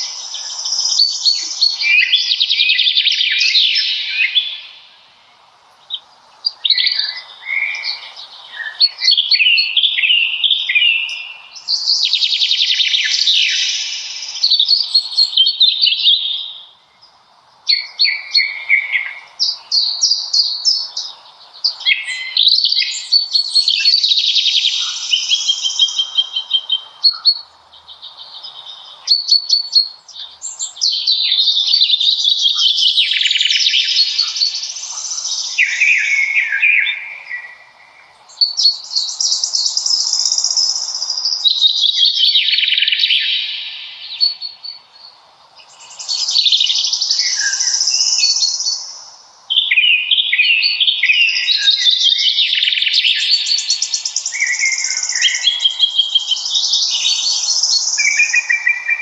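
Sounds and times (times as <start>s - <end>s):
songbirds trilling and warbling: 0.0s - 59.0s.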